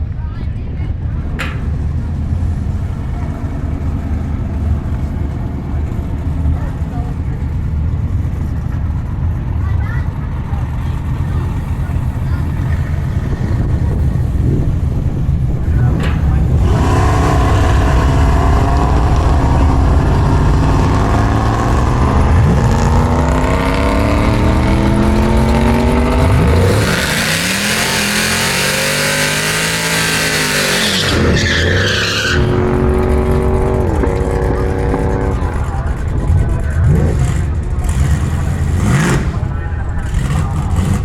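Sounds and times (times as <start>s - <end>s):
cars rushing past: 0.0s - 41.0s
racing car engines accelerating: 0.9s - 41.0s.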